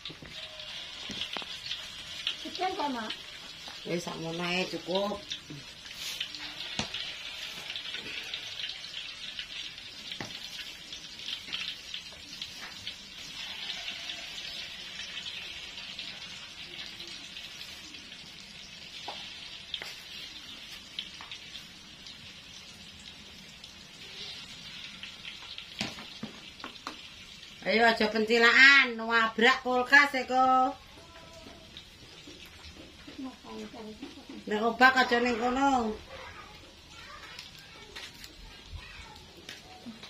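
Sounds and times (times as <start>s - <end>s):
food deep-frying in hot oil: 0.0s - 40.0s.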